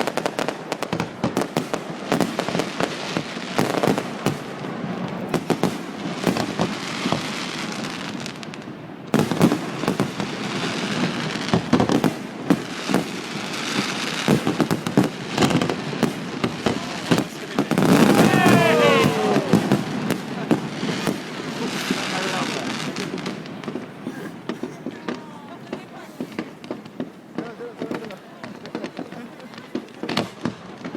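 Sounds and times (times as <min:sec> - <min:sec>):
fireworks crackling: 0:00.0 - 0:30.9.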